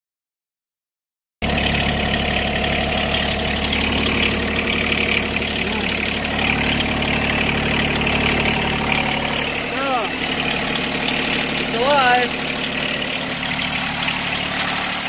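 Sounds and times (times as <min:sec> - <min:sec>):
diesel engine idling: 0:01.4 - 0:15.0.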